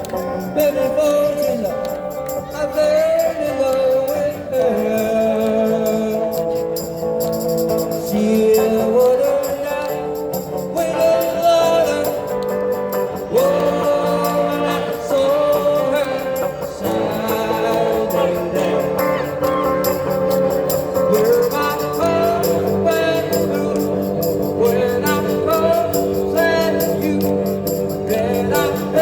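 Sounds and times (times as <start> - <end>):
jingling beat: 0.0 - 29.0
street band playing: 0.0 - 29.0.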